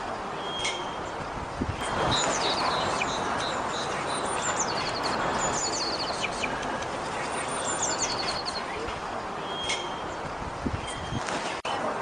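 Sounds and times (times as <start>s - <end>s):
songbird twittering: 0.4s - 1.2s, 1.8s - 11.6s.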